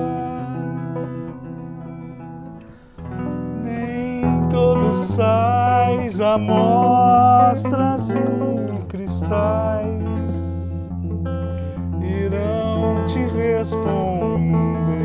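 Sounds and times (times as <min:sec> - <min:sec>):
man singing with vibrato: 0:00.0 - 0:02.1, 0:03.4 - 0:10.9, 0:11.9 - 0:15.0
electric guitar chords: 0:00.0 - 0:15.0.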